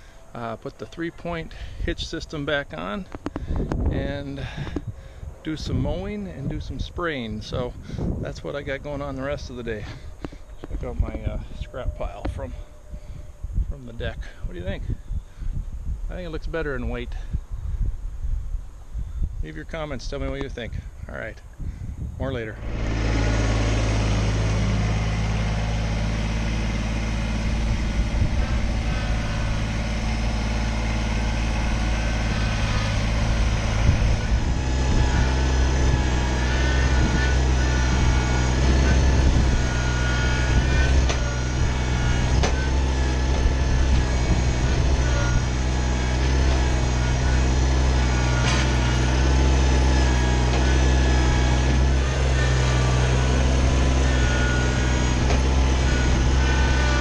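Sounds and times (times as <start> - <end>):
diesel tractor engine running: 0.0 - 15.7, 22.2 - 57.0.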